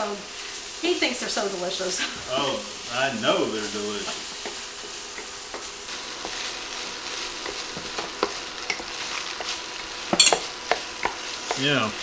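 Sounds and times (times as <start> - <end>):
food sizzling in skillet: 0.0 - 12.0
spatula scraping skillet: 0.1 - 12.0.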